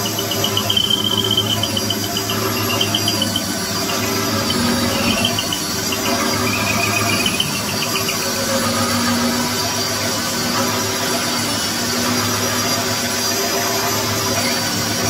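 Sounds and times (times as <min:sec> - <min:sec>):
high pulsing squeal: 0:00.0 - 0:15.0.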